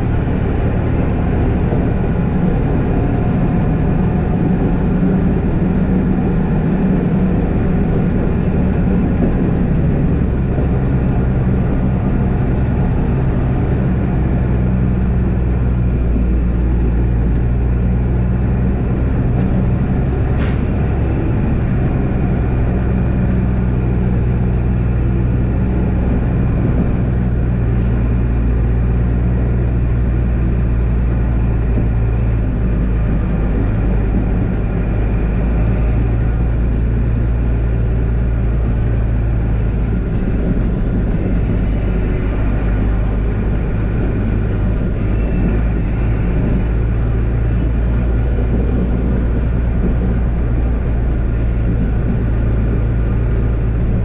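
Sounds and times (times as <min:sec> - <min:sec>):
diesel engine running under load: 0:00.0 - 0:54.0
snowplow pushing snow: 0:00.0 - 0:54.0.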